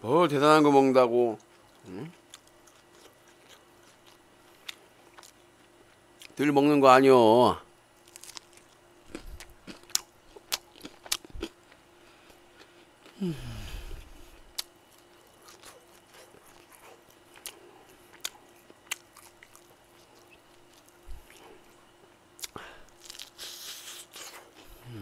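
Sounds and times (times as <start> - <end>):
crunching and chewing fried chicken: 1.3 - 6.4, 7.8 - 25.0.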